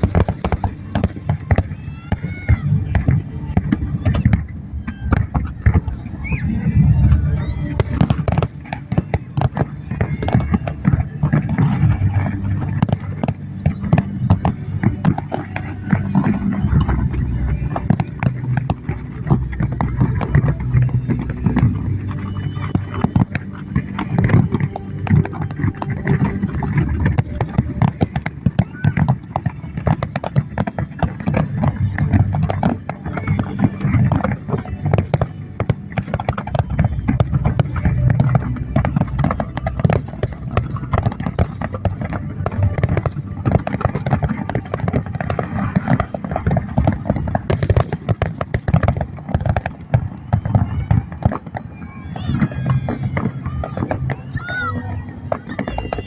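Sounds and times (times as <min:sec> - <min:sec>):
firework bangs and crackles: 0:00.0 - 0:56.0
low rumble of fireworks: 0:00.0 - 0:56.0.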